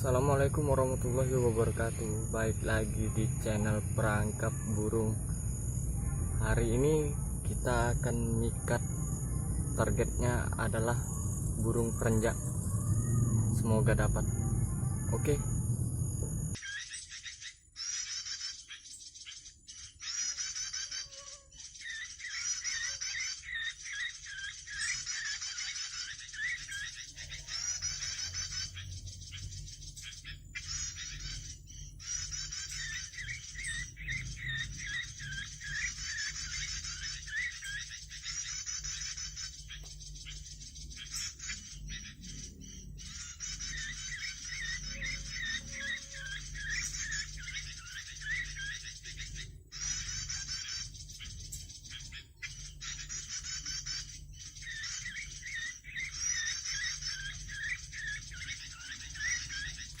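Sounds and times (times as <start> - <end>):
steady low hum: 0.0 - 16.6, 26.6 - 60.0
songbirds twittering: 0.0 - 60.0.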